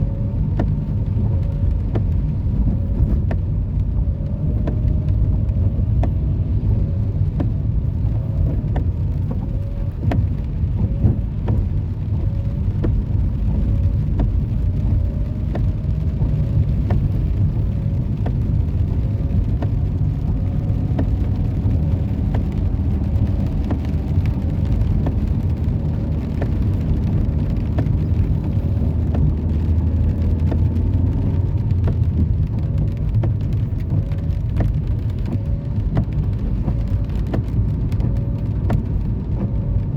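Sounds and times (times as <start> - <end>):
car engine and road rumble: 0.0 - 39.9
light ticks: 0.1 - 39.9.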